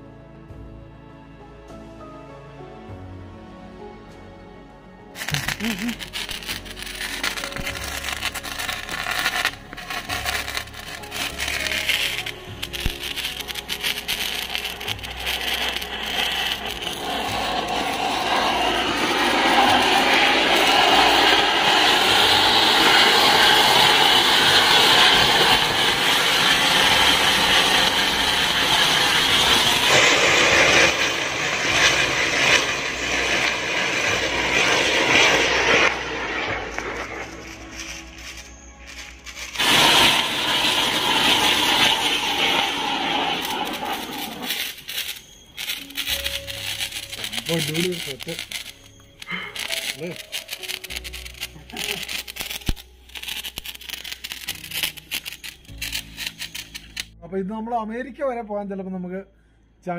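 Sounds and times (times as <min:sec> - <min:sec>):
fireworks crackling hiss with pops: 0:05.1 - 0:57.2.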